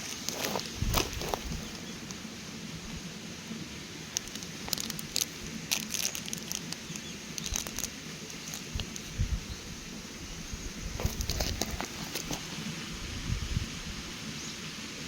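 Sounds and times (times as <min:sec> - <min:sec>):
fire popping: 0:00.0 - 0:03.1, 0:04.0 - 0:13.4
campfire crackling: 0:00.0 - 0:14.3.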